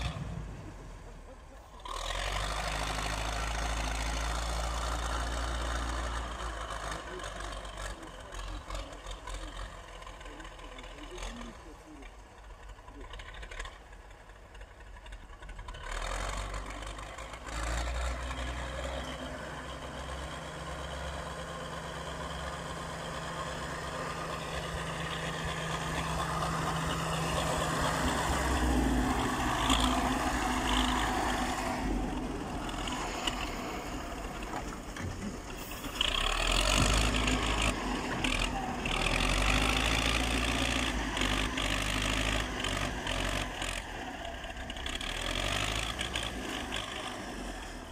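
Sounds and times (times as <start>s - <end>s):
diesel engine revving under load: 0.0s - 47.9s.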